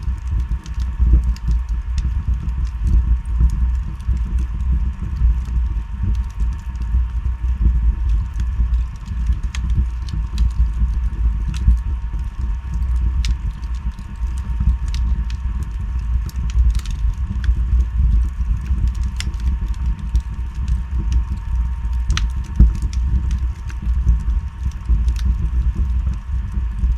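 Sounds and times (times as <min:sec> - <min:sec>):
fire rumbling: 0:00.0 - 0:26.9
logs crackling and popping: 0:00.0 - 0:26.9.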